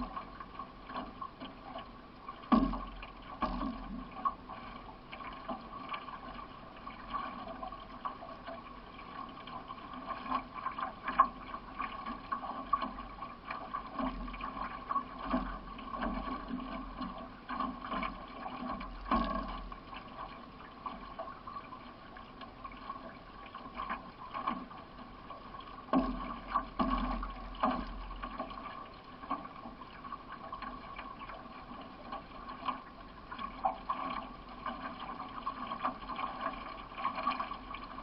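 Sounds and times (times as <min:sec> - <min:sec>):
paddle splashes and knocks: 0:00.0 - 0:38.0
water running along hull: 0:00.0 - 0:38.0.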